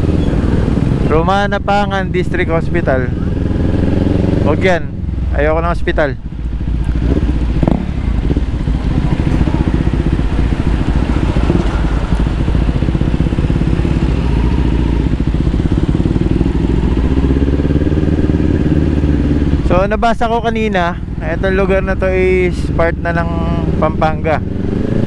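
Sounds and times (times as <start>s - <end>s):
motorcycle engine at low speed: 0.0s - 25.0s.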